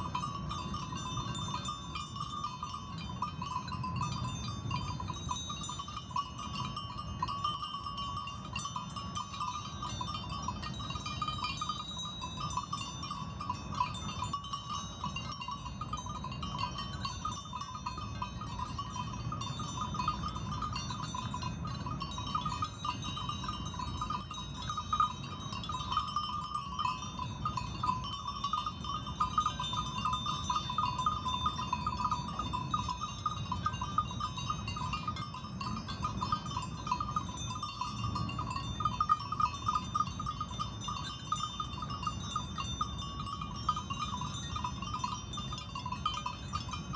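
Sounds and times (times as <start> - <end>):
sheep bells jingling: 0.0 - 46.9.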